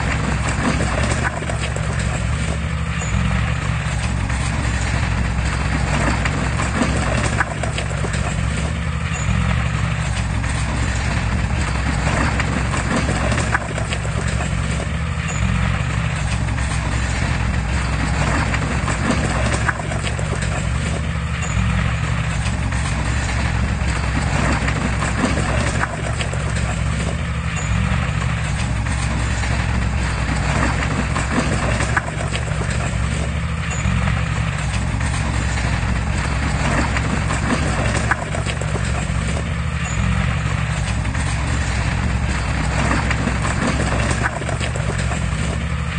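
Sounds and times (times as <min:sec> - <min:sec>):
bulldozer diesel engine: 0:00.0 - 0:45.9
steel tracks clanking: 0:00.0 - 0:45.9.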